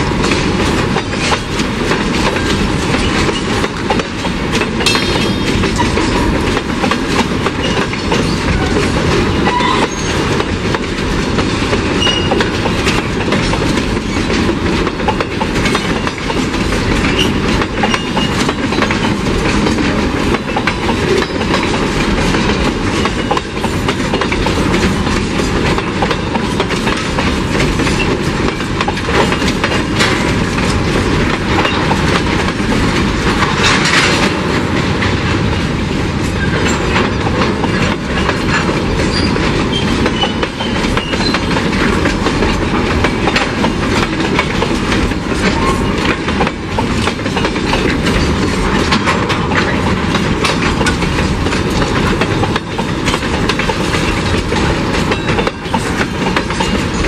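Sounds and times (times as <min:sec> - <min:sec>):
freight wagons rattling: 0:00.0 - 0:35.6, 0:36.2 - 0:57.0
train wheels clickety-clack: 0:00.0 - 0:57.0.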